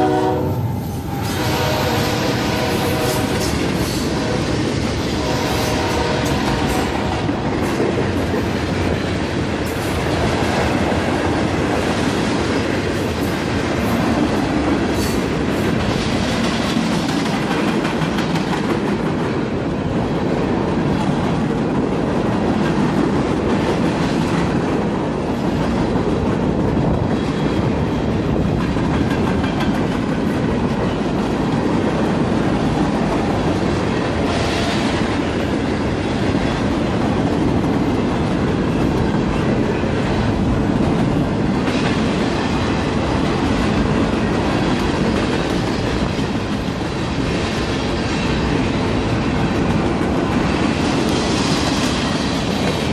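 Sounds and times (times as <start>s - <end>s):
freight train wheels rumbling: 0.0s - 52.9s
clickety-clack over rail joints: 1.3s - 52.9s.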